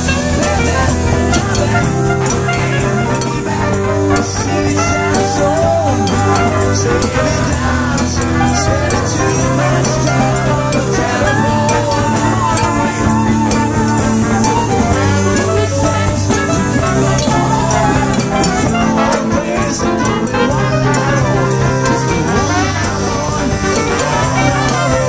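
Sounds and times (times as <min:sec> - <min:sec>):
live band playing: 0:00.0 - 0:25.0
steady bass line: 0:00.0 - 0:25.0.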